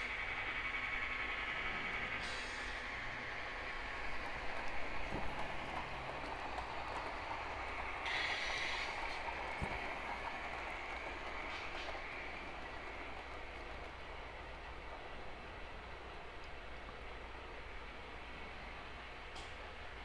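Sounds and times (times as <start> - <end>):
wheels clicking on rails: 0.0 - 17.8
model train whirring on track: 0.0 - 20.0.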